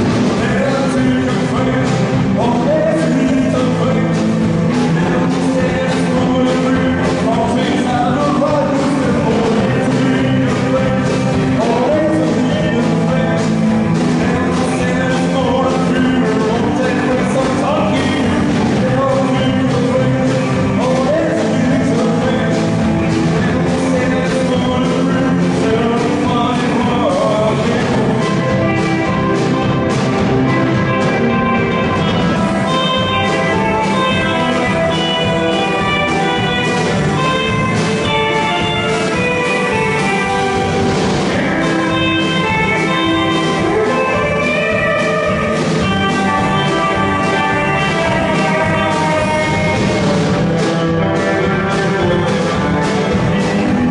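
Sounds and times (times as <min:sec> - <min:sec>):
live rock and roll band: 0:00.0 - 0:53.9.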